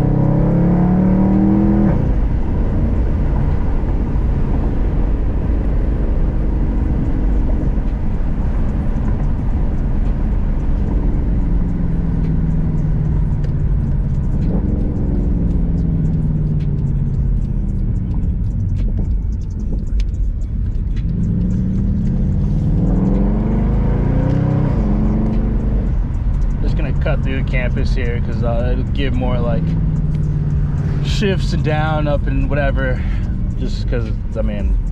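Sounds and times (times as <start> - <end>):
car engine from inside cabin: 0.0 - 34.9
low road rumble: 0.0 - 34.9.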